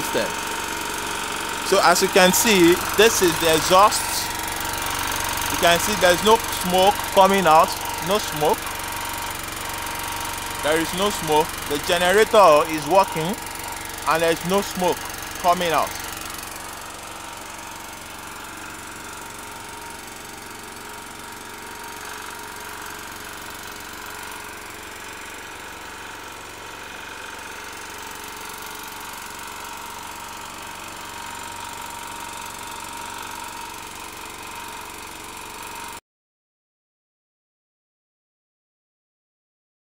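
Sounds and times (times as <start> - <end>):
generator engine running: 0.0 - 36.0.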